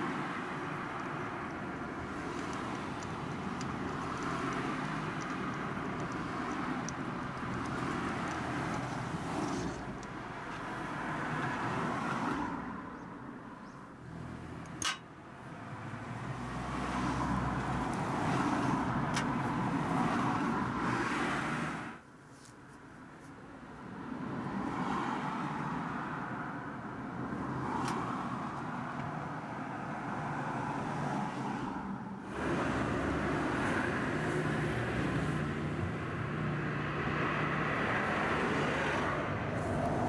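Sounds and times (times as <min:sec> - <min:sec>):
motor vehicle noise: 0:00.0 - 0:22.0, 0:24.4 - 0:40.0.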